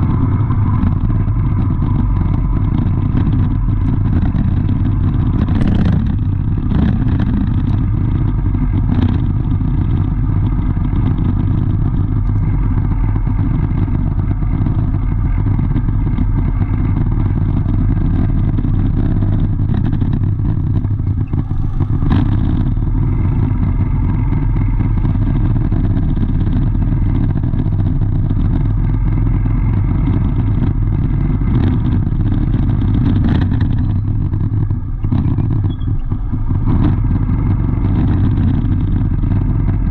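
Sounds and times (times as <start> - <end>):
vehicle engines rumbling: 0.0 - 39.9.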